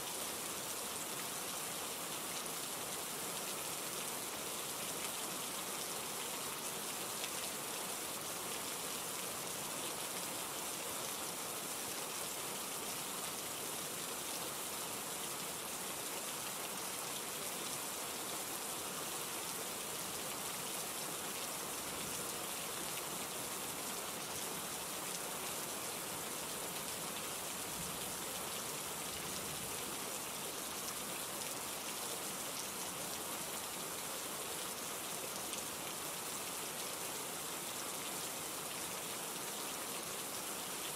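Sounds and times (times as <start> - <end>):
steady rain hiss and patter: 0.0 - 40.9.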